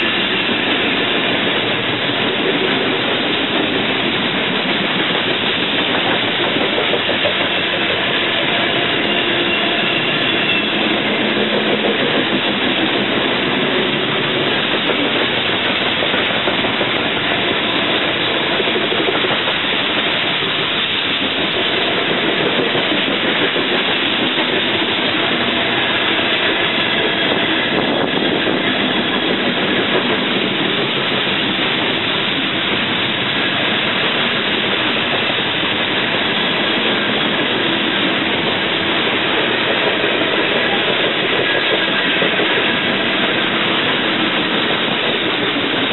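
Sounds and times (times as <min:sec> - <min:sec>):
train wheels on rail: 0:00.0 - 0:45.9.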